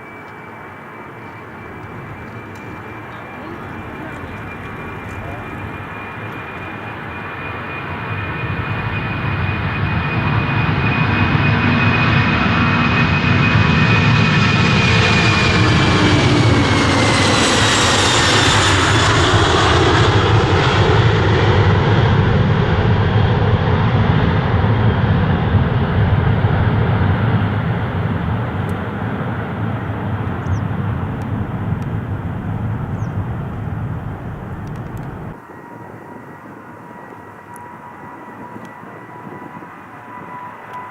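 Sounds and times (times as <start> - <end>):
jet airliner flying past: 0.0 - 40.9.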